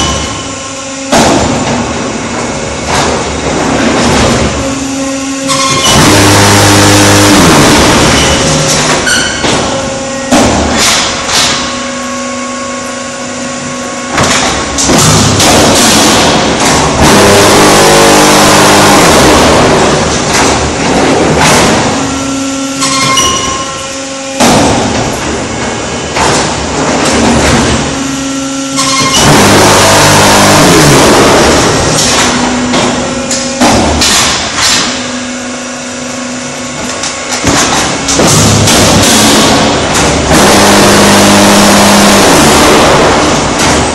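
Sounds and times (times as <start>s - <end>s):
loud steady machine hum: 0.0s - 43.9s
machine knocks and thumps: 1.0s - 4.8s, 5.4s - 11.8s, 14.1s - 28.0s, 28.8s - 35.1s, 36.8s - 43.9s.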